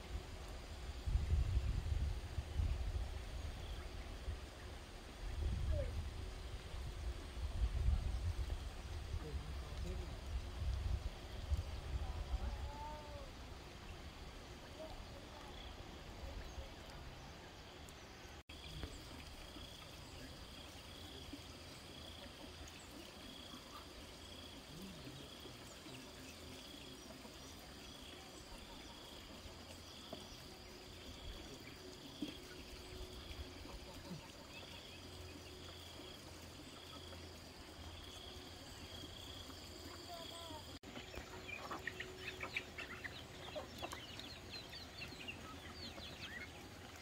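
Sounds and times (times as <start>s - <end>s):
faint insect chirping: 0.0s - 46.6s.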